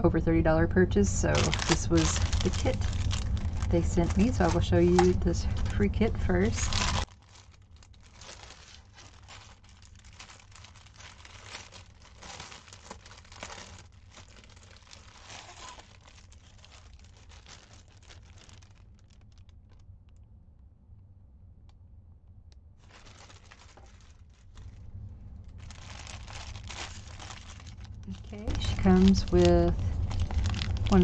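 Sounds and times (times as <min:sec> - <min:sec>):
faint low hum: 0:00.0 - 0:31.0
plastic bag crinkling: 0:01.1 - 0:20.2, 0:22.8 - 0:31.0.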